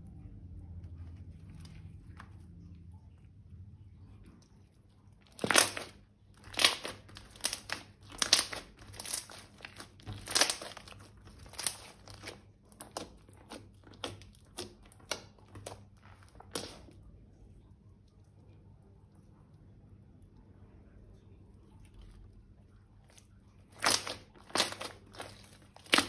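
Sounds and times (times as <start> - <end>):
slime squishing crunchily: 0.5 - 3.5, 4.1 - 19.2, 21.5 - 26.0.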